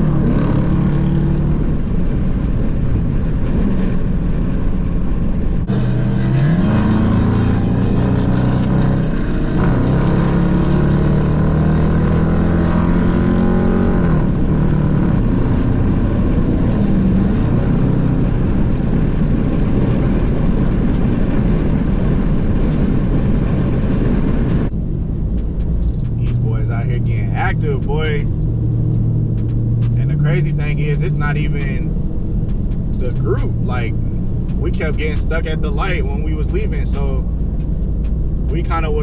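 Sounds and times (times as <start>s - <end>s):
car engine accelerating: 0.0s - 39.0s
road noise: 0.0s - 39.0s.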